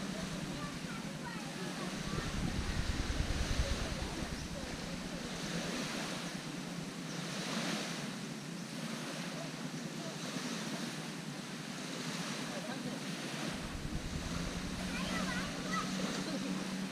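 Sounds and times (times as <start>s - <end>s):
small waves on sandy beach: 0.0s - 16.9s.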